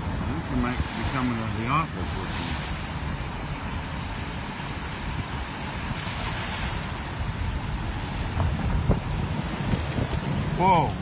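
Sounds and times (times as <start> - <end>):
car road rumble: 0.0 - 11.0
wind noise on microphone: 0.0 - 11.0.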